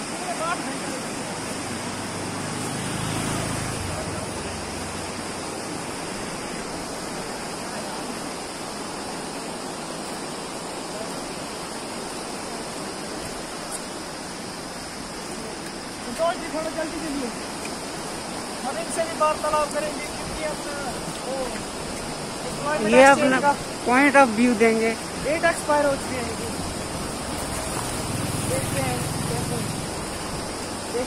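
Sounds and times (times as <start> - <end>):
whitewater river rushing: 0.0 - 31.0.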